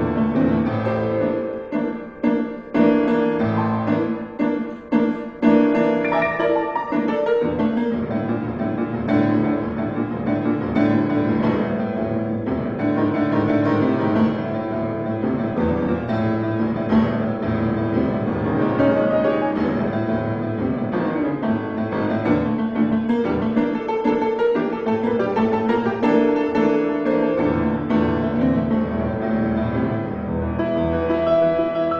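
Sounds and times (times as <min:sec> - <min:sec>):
piano playing fast notes: 0:00.0 - 0:31.9.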